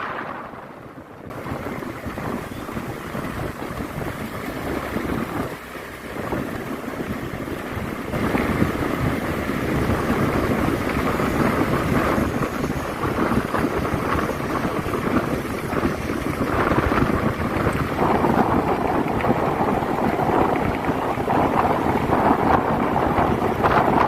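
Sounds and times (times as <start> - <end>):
heavy rain falling: 0.0 - 24.0
wind: 0.0 - 24.0.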